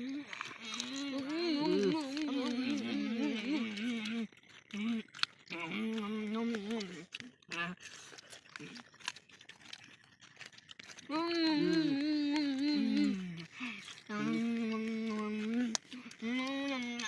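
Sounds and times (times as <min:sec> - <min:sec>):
crinkling and clicking of eating: 0:00.0 - 0:17.0.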